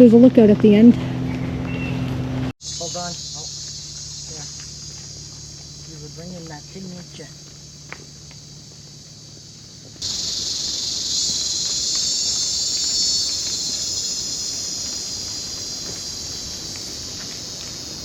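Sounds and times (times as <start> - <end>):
insects buzzing drone: 1.3 - 18.0.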